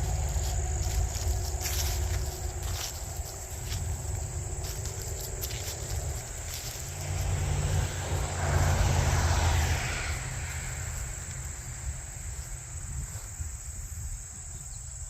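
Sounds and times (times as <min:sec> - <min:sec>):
vehicle passing on road: 0:00.0 - 0:14.6
steady low rumble: 0:00.0 - 0:14.8
faint insect chirping: 0:00.0 - 0:15.0.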